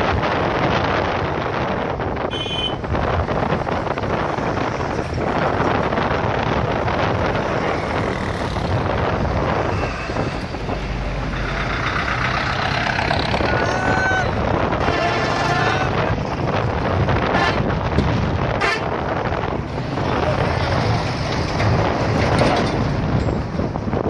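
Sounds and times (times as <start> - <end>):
vehicles driving by: 0.0 - 24.0.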